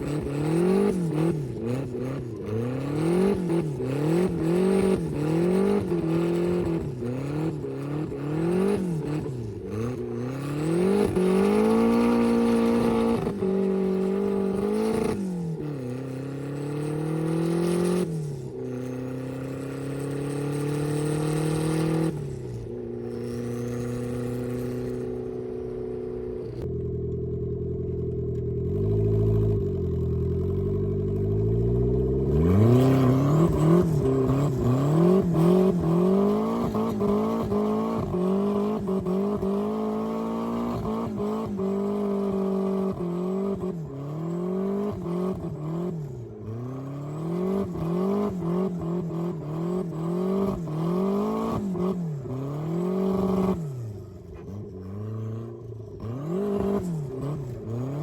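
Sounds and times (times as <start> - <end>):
car engine revving: 0.0 - 26.7, 31.7 - 58.0.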